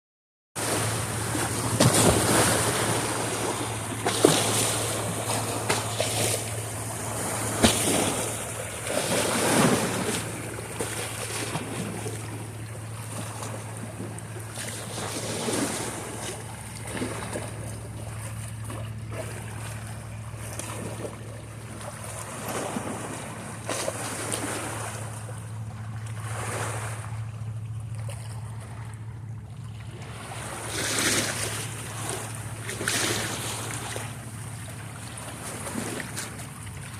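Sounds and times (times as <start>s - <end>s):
waves splashing: 0.6s - 28.8s, 29.8s - 36.9s
steady low hum: 0.6s - 36.9s.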